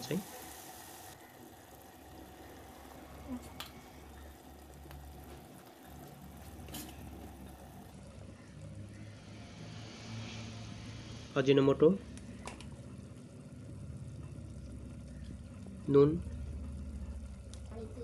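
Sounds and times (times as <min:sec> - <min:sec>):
meat sizzling and bubbling: 0:00.0 - 0:11.3, 0:12.0 - 0:18.0.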